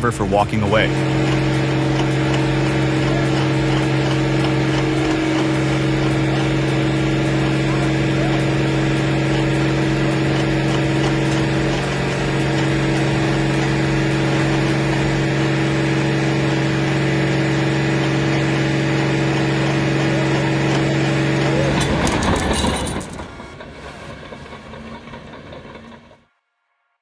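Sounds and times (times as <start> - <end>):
heavy diesel engine droning: 0.0 - 26.2.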